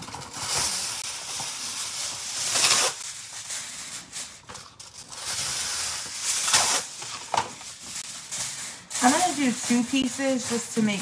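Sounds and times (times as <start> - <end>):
aluminum foil rustling and crinkling: 0.0 - 11.0.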